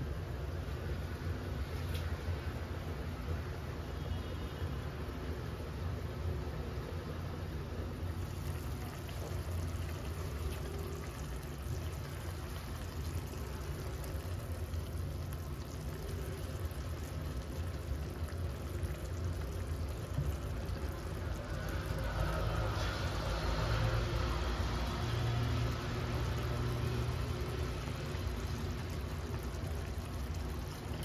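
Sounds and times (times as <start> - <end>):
liquid bubbling in a saucepan: 0.0 - 31.0.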